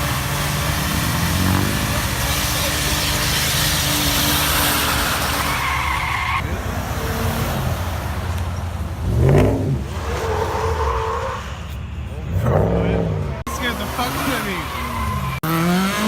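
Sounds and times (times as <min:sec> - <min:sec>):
car engine revving: 0:00.0 - 0:16.0
car tyres screeching: 0:00.0 - 0:16.0.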